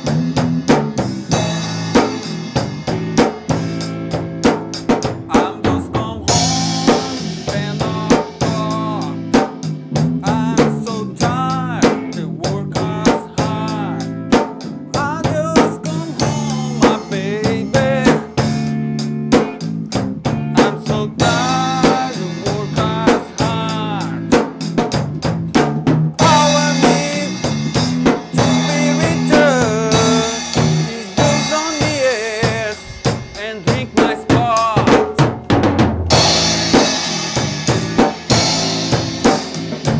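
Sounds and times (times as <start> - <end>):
bending lead melody: 0.0 - 39.9
drum kit beat: 0.0 - 39.9
rock band playing: 0.0 - 39.9.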